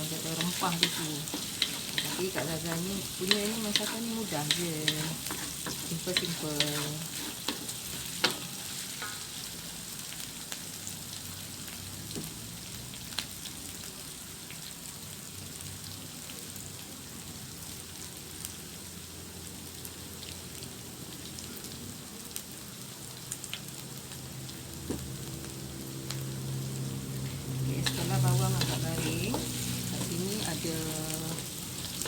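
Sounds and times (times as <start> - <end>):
hot oil sizzling: 0.0 - 32.0.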